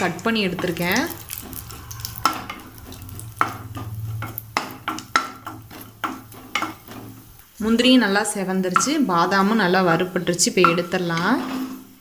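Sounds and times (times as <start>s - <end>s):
nuts sizzling in oil: 0.0s - 12.0s
spatula scraping pan: 0.2s - 12.0s.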